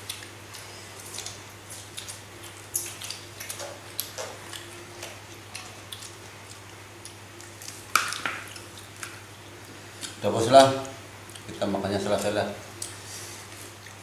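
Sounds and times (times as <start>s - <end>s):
people chewing: 0.0s - 10.2s, 10.8s - 14.0s
low steady hum: 0.0s - 14.0s.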